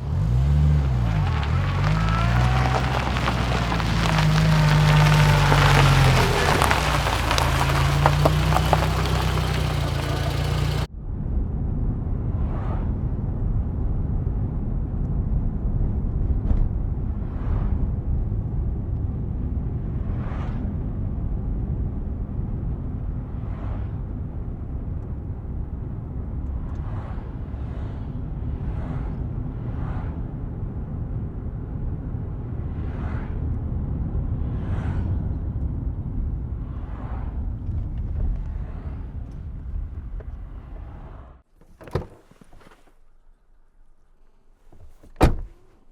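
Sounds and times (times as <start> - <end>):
low vehicle rumble: 0.0 - 41.6.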